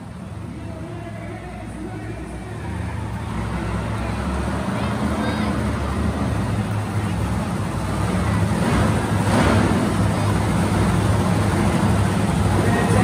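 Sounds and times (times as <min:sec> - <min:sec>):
monster truck engines rumbling: 0:00.0 - 0:13.0.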